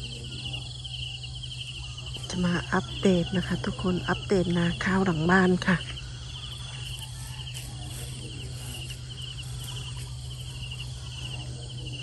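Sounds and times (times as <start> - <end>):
insects trilling: 0.0 - 12.0
low steady hum: 0.0 - 12.0.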